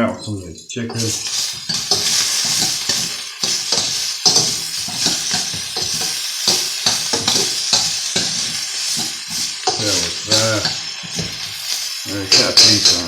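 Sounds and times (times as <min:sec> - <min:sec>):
chicken sizzling in a pan: 0:00.8 - 0:13.0
utensil scraping a pan: 0:00.9 - 0:13.0.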